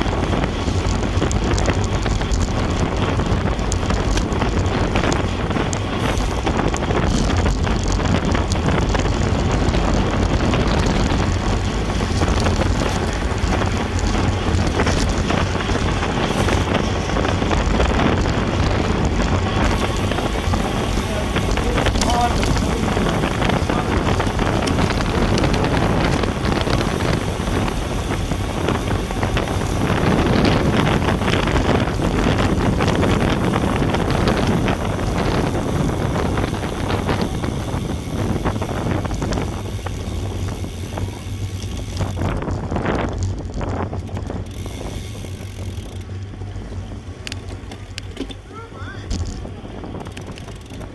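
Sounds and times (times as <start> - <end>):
tyre and road noise: 0.0 - 50.9
wind buffeting camera: 0.0 - 50.9.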